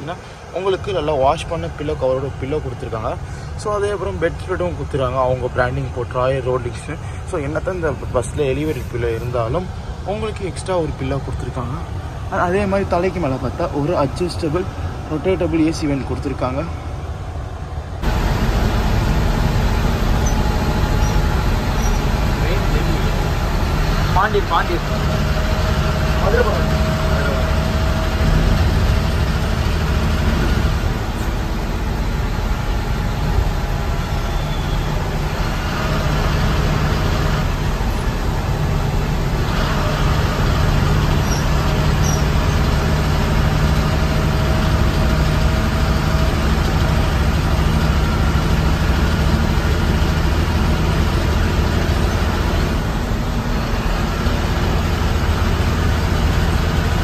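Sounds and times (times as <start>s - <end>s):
bus engine drone: 0.0s - 57.0s
tyre and road noise: 6.2s - 57.0s.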